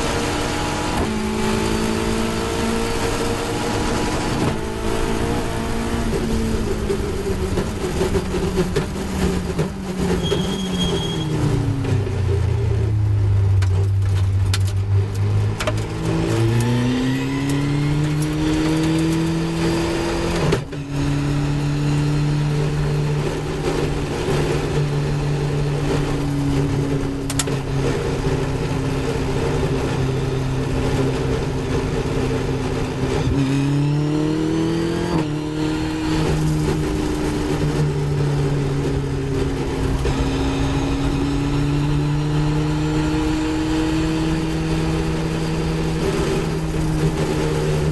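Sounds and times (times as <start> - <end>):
racing car engine accelerating: 0.0 - 47.9.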